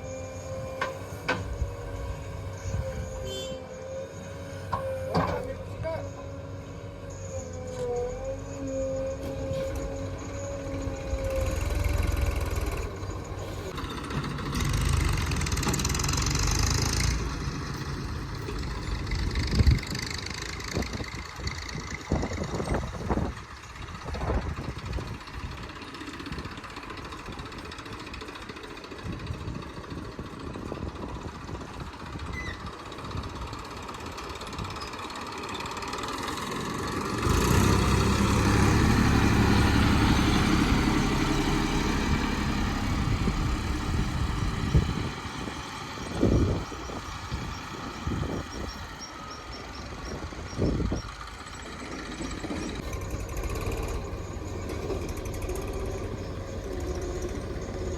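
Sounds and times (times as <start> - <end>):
heavy diesel engine revving: 0.0 - 32.3, 32.9 - 57.9.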